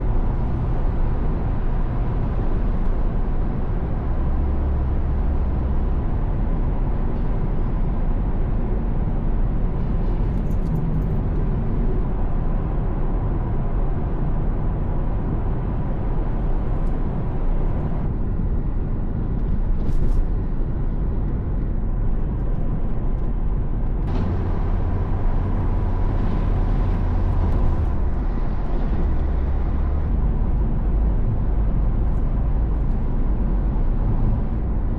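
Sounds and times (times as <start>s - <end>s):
car road noise: 0.0s - 34.9s.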